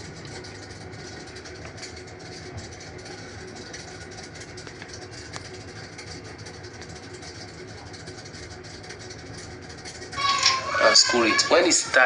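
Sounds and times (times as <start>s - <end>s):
sewing machine motor running: 0.0s - 12.0s.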